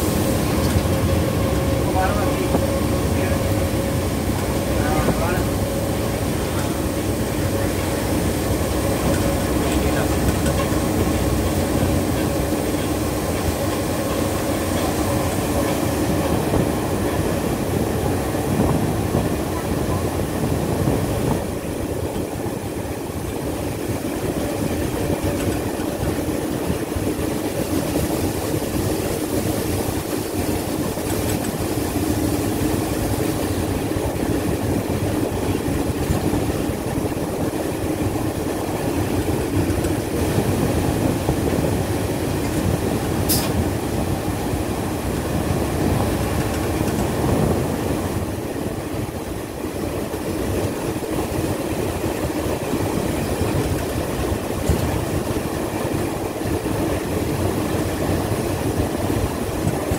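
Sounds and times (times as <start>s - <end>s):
locomotive engine drone: 0.0s - 59.9s
wheel and track noise: 0.0s - 59.9s.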